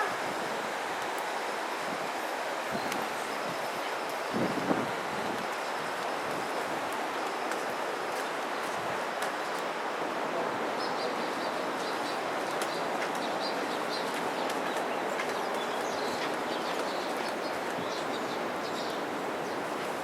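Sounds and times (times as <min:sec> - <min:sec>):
flood water rushing: 0:00.0 - 0:20.0.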